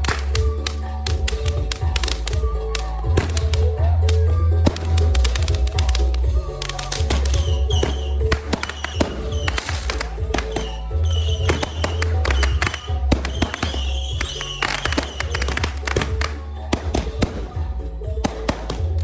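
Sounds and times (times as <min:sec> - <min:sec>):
fireworks crackling and popping: 0:00.0 - 0:19.0
loud music with heavy bass: 0:00.0 - 0:19.0.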